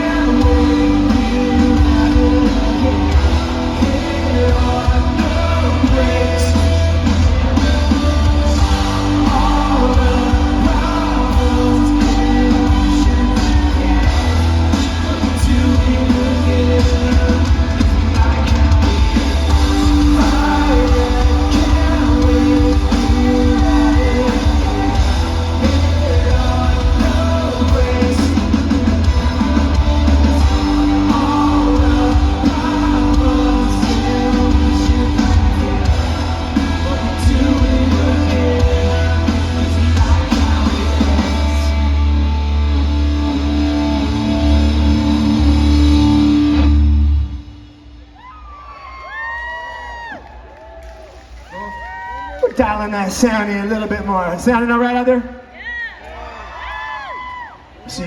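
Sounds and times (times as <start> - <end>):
person singing: 0.0 - 46.8
electric guitar: 0.0 - 48.0
heavy bass: 0.0 - 48.3.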